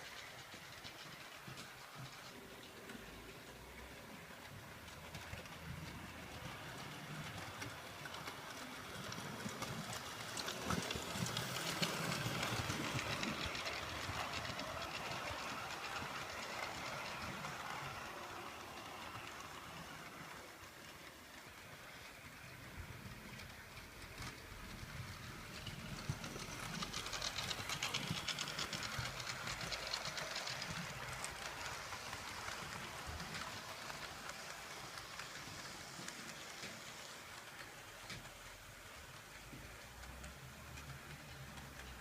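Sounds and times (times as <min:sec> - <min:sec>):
train rumble: 0:00.0 - 0:42.0
train wheels clattering: 0:00.0 - 0:42.0.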